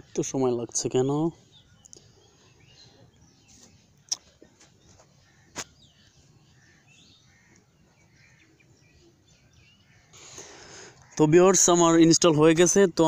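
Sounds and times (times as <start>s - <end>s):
faint bird chirps: 0.0s - 11.8s.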